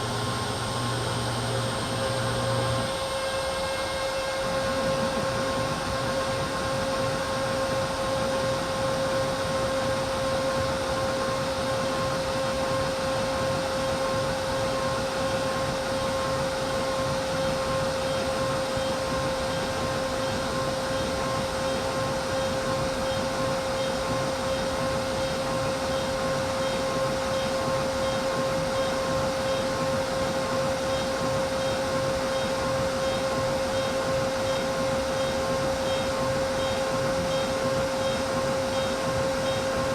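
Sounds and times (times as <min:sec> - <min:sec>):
cnc machine whine and rushing: 0:00.0 - 0:39.9.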